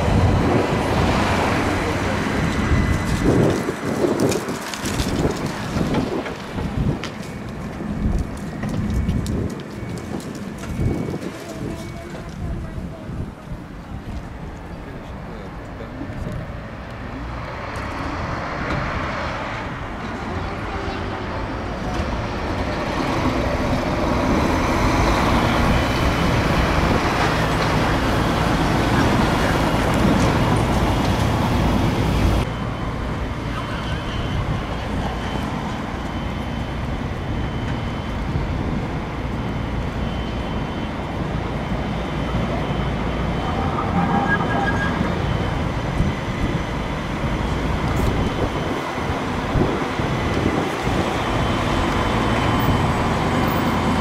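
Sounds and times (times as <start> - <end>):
tram pulling in slowly: 0.0 - 54.0
tram running past: 0.0 - 54.0.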